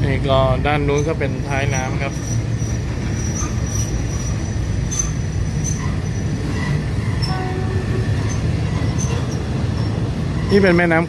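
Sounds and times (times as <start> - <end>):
train wheels rumbling on rails: 0.0 - 11.0
high-pitched wheel squeals: 0.9 - 10.8.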